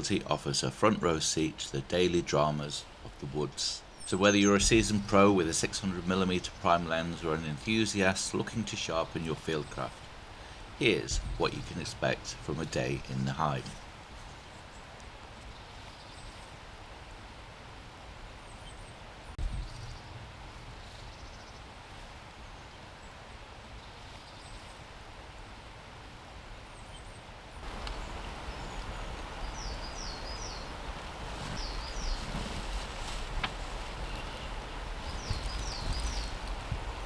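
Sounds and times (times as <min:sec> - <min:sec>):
small birds chirping: 0:00.0 - 0:17.2, 0:18.3 - 0:24.9, 0:26.7 - 0:37.0.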